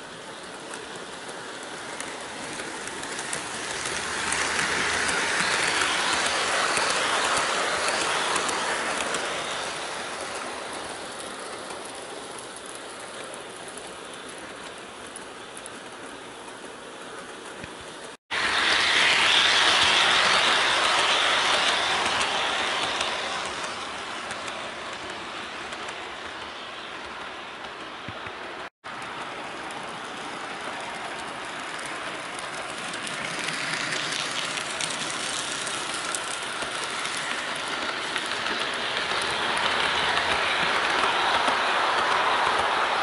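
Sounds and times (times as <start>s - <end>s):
model trains rolling and whirring: 0.0s - 43.0s.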